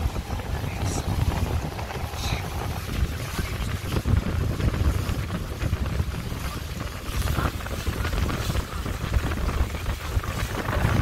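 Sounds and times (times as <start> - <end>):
boat and water noise: 0.0 - 11.0
wind buffeting microphone: 0.0 - 11.0.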